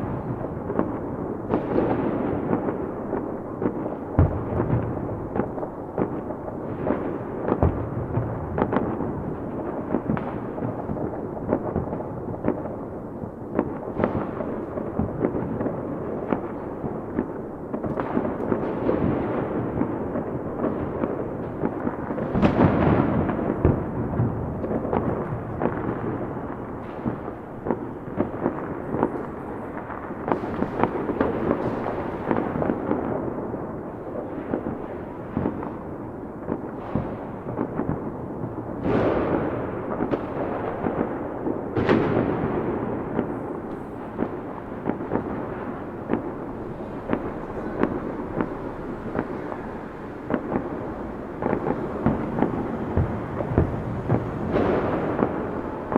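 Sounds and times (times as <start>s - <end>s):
fireworks booms: 0.0s - 55.9s
fireworks crackling and popping: 0.0s - 55.9s.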